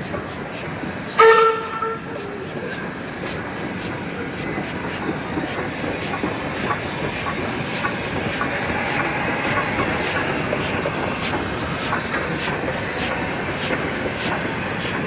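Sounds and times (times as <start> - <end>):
steam hissing: 0.0 - 15.0
train wheels clattering on rails: 0.0 - 15.0.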